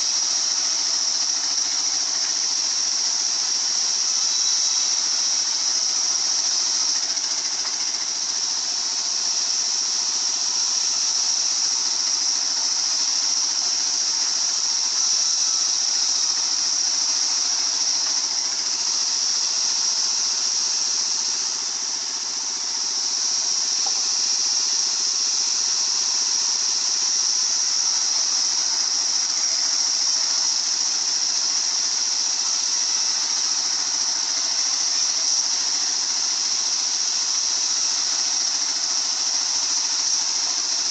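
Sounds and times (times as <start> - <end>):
circular saw running: 0.0 - 40.9.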